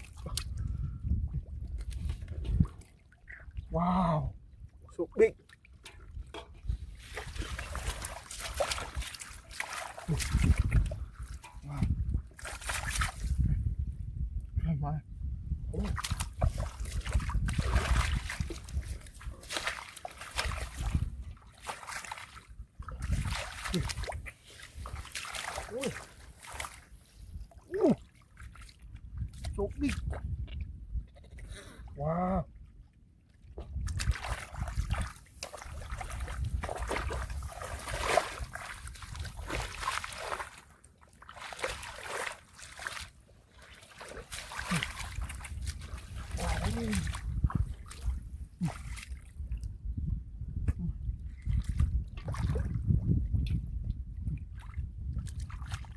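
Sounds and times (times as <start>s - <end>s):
splashing in muddy water: 0.0s - 13.8s, 15.7s - 55.9s.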